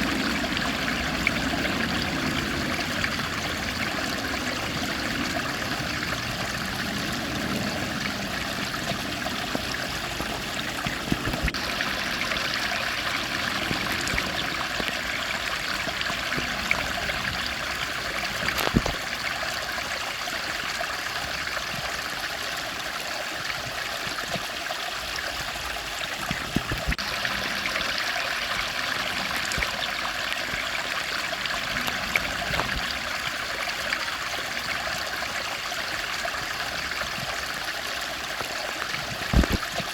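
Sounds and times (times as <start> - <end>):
stream of flowing water: 0.0 - 39.9.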